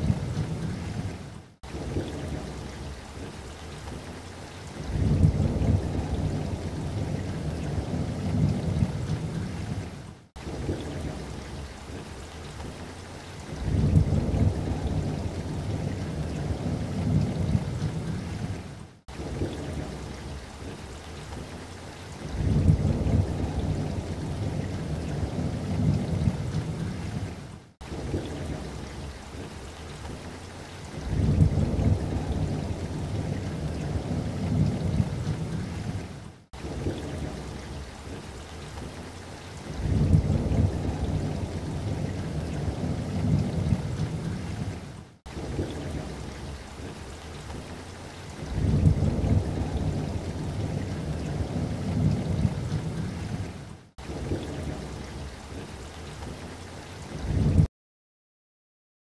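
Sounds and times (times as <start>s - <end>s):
low rolling thunder: 0.0s - 3.4s, 4.8s - 12.1s, 13.5s - 20.8s, 22.2s - 30.2s, 31.0s - 38.3s, 39.7s - 47.2s, 48.4s - 55.8s
rain falling: 0.0s - 57.7s.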